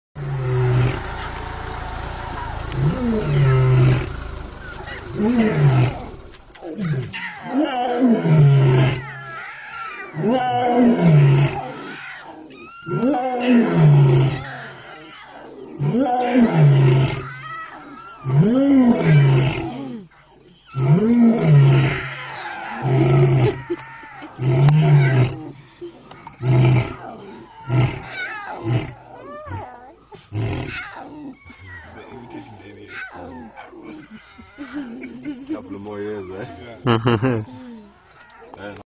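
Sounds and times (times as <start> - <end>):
lions roaring: 0.2 - 1.1, 2.6 - 20.1, 20.7 - 35.2.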